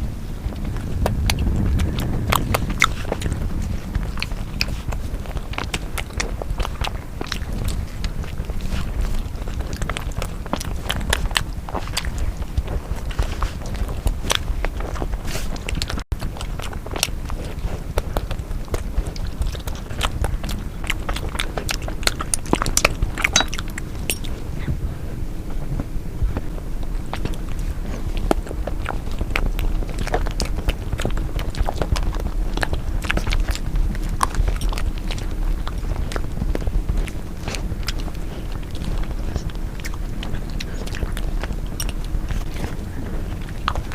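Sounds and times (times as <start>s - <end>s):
chewing and biting: 0.0s - 43.9s
mouth clicks and smacks: 0.4s - 24.8s, 25.8s - 43.9s.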